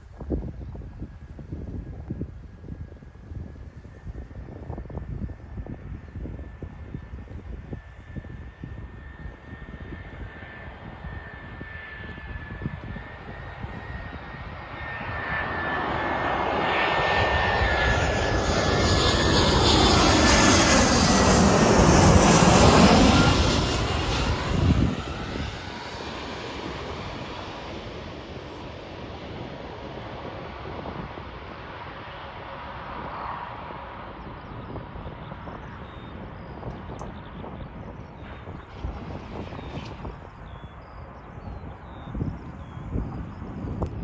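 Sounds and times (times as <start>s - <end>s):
jet airliner engines passing: 0.0s - 44.0s.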